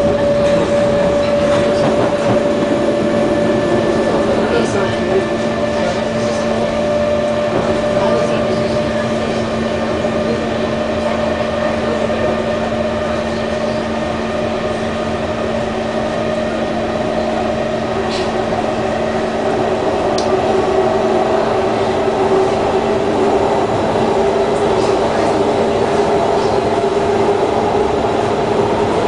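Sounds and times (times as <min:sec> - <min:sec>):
train interior rumble with tones: 0:00.0 - 0:29.0.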